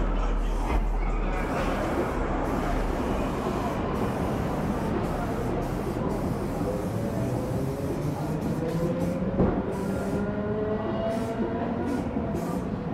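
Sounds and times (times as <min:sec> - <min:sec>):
traffic rumble: 0:00.0 - 0:12.9
spray-paint can hissing: 0:01.4 - 0:10.2, 0:11.1 - 0:12.7.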